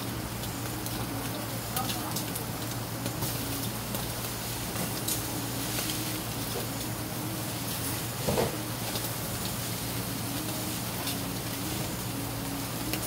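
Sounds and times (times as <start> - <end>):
fish sizzling and crackling on grill: 0.0 - 13.0
steady low hum: 0.0 - 13.0.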